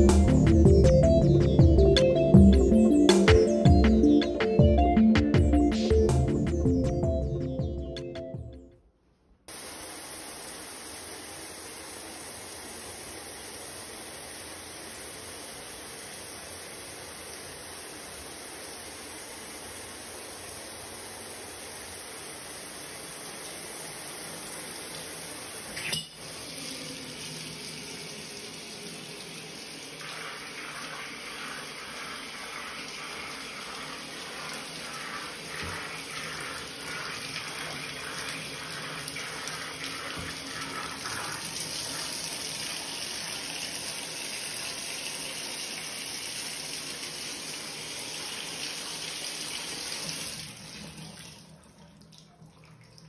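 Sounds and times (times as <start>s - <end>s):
water running into a bathtub: 9.5s - 53.0s.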